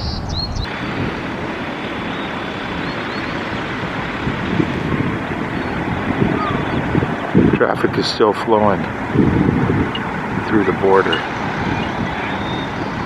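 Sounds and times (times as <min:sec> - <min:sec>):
passing vehicle traffic: 0:00.0 - 0:13.0
wind noise on microphone: 0:00.0 - 0:13.0.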